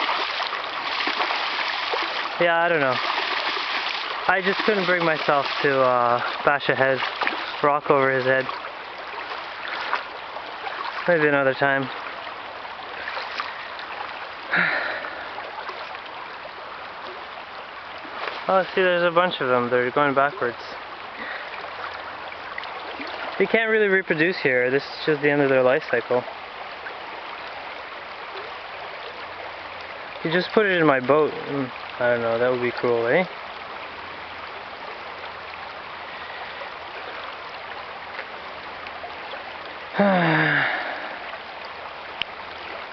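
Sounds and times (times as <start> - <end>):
river water running: 0.0 - 42.9.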